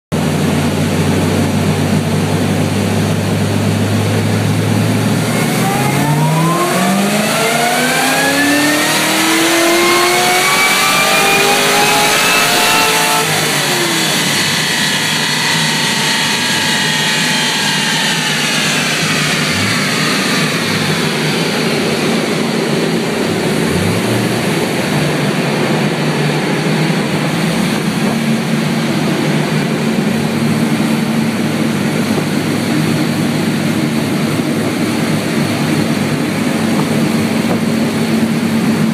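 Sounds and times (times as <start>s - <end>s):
car engine revving and idling: 0.2s - 38.9s.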